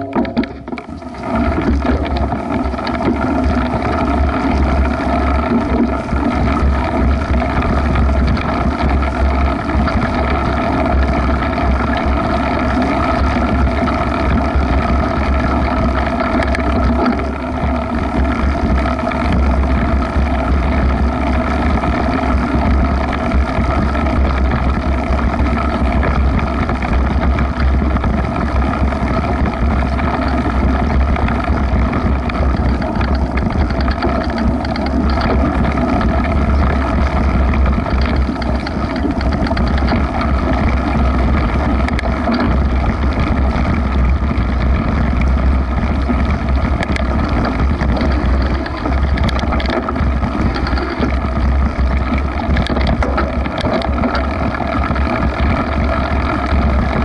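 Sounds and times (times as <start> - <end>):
bike tyres rolling through grass: 0.0 - 57.0
wind rumbling on microphone: 0.0 - 57.0.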